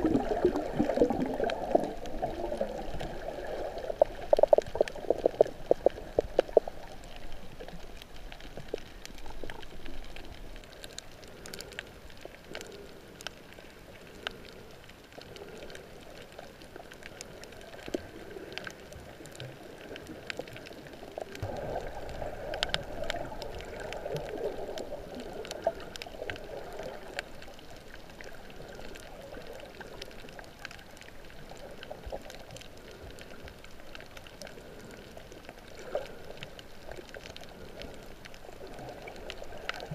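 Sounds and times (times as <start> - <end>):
muffled underwater swishing and gurgling: 0.0 - 39.9
faint clicks: 0.4 - 39.9.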